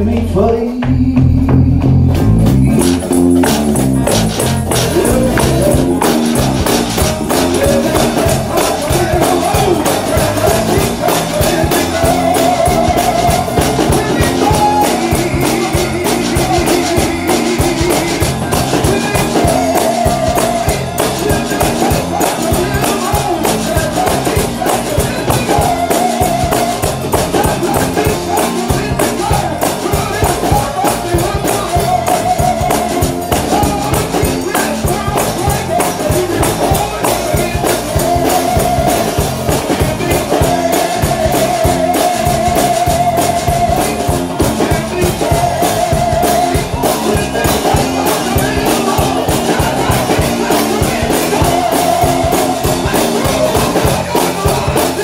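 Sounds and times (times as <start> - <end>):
drums beat: 0.0 - 55.0
worship song by full band: 0.0 - 55.0
tambourine: 2.6 - 55.0.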